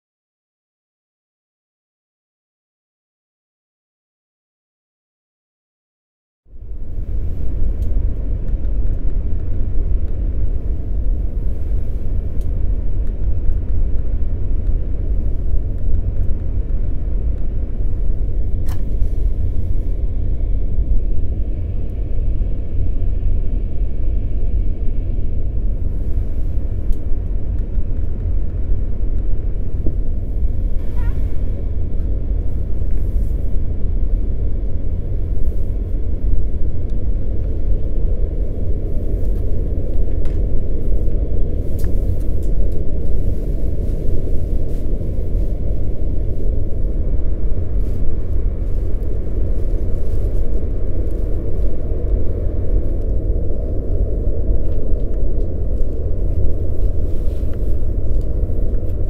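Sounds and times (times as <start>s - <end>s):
low rumble: 6.5s - 59.0s.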